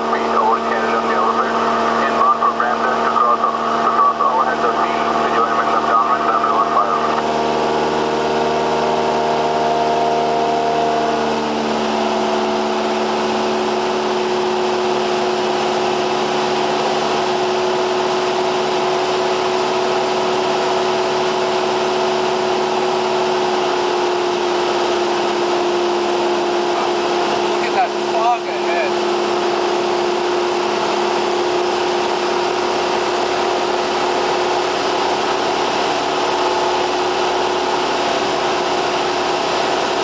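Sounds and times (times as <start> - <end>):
small plane engine and propeller: 0.0 - 40.0.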